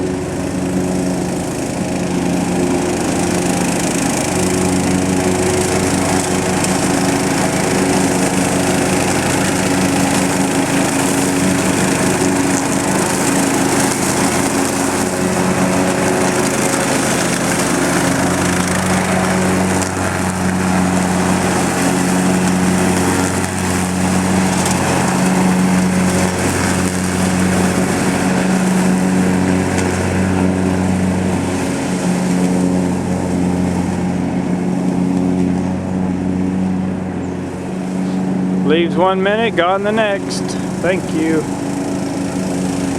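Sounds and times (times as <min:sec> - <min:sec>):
lawn mower mulching leaves: 0:00.0 - 0:42.9.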